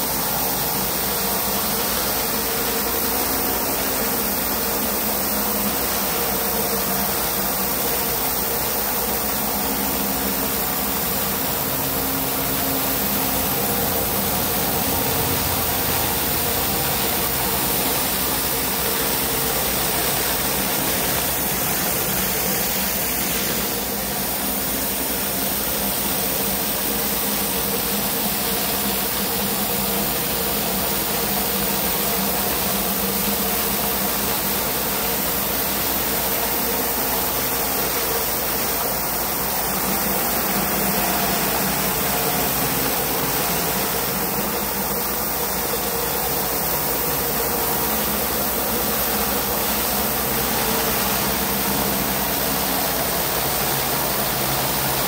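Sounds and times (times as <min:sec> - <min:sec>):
pressure washer engine running: 0:00.0 - 0:55.0
water jet hissing on concrete: 0:00.0 - 0:55.0.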